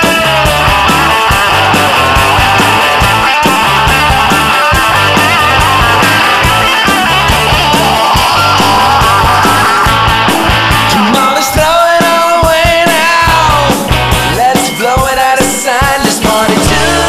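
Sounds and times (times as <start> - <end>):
lead guitar line with vibrato: 0.0 - 17.0
rock band playing: 0.0 - 17.0.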